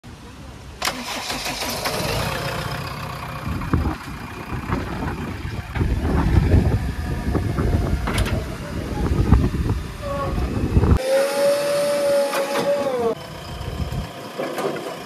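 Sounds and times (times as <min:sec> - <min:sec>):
diesel machinery rumbling: 0:00.4 - 0:15.0.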